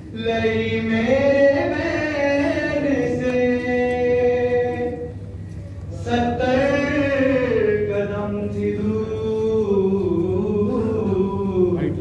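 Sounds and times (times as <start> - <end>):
man chanting a lament: 0.0 - 5.2, 5.9 - 12.0
low steady hum: 0.0 - 12.0.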